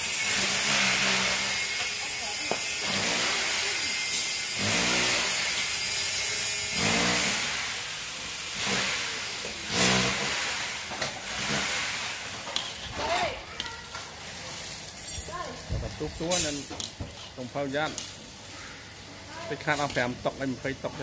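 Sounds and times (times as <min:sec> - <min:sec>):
vegetables sizzling in a wok: 0:00.0 - 0:21.0.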